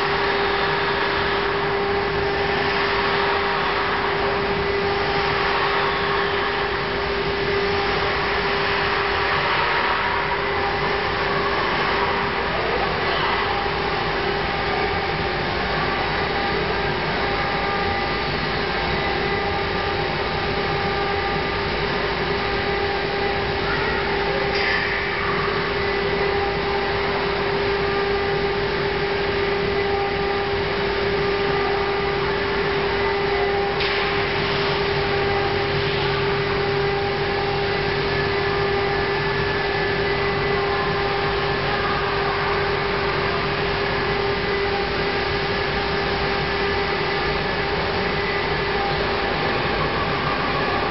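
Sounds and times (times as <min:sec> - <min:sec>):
machine noise: 0:00.0 - 0:50.9
spindle motors whining: 0:00.0 - 0:50.9.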